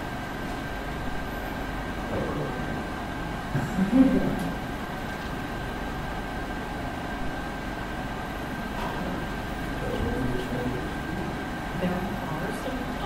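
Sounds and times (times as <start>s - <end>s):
room noise hum: 0.0s - 13.0s.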